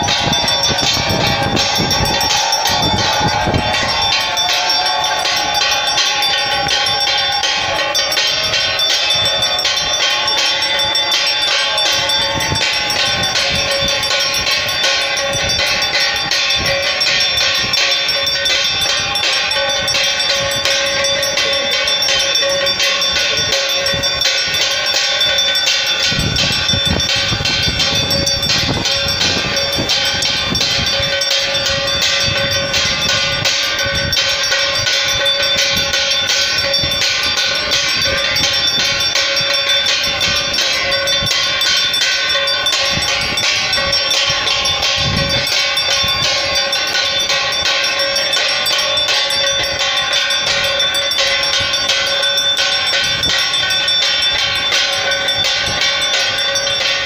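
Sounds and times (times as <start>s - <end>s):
hand bells and cymbals clanging: 0.0s - 57.0s
steady ringing tone: 0.0s - 57.0s.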